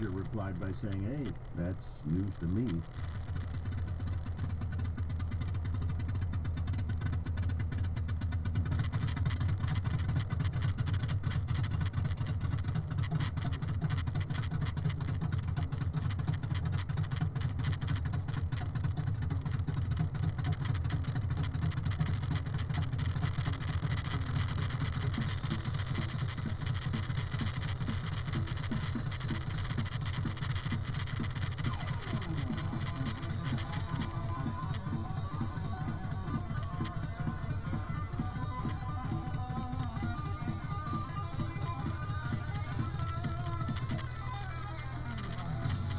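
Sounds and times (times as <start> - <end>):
truck engine rumbling: 0.0 - 45.9.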